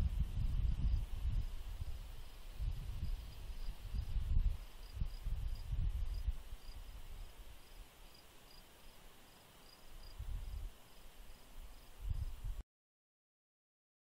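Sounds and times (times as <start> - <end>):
insect chirping: 0.1 - 12.4.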